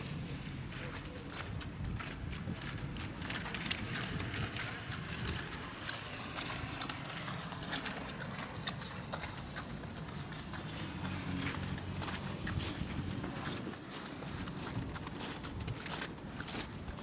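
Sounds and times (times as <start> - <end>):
hooves clip-clopping on hard ground: 0.0 - 17.0.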